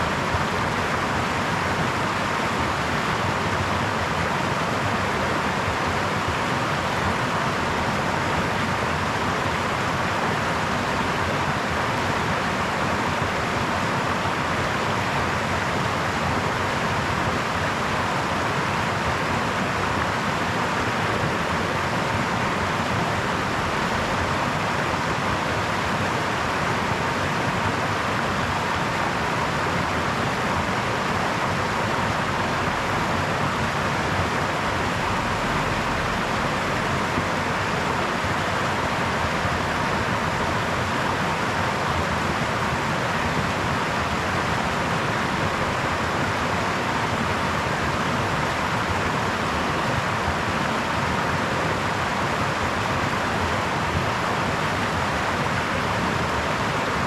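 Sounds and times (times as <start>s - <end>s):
brook water rushing: 0.0s - 57.0s.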